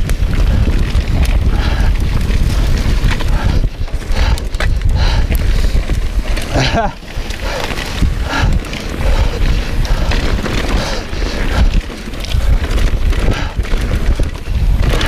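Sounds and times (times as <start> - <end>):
bike knocks and rattles: 0.0 - 15.0
wind buffeting microphone: 0.0 - 15.0.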